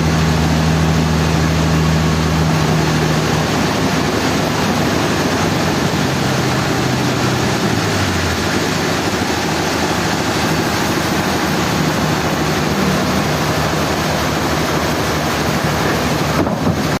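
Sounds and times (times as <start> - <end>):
low engine hum: 0.0 - 17.0
sawmill machinery running: 0.0 - 17.0.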